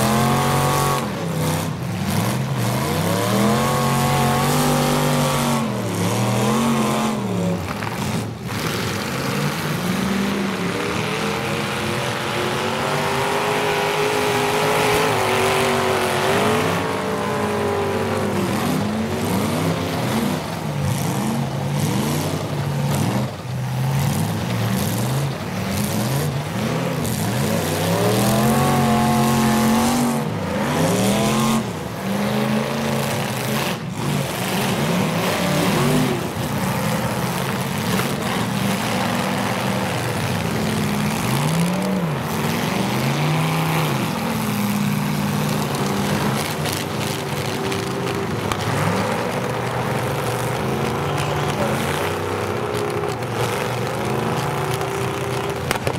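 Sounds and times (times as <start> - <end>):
car engines revving: 0.0 - 55.9
cars hitting each other: 0.0 - 55.9.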